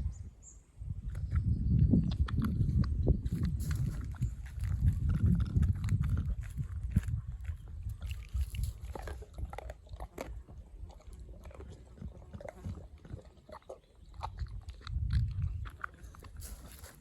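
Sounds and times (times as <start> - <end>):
dog chewing and crunching food: 1.2 - 17.0.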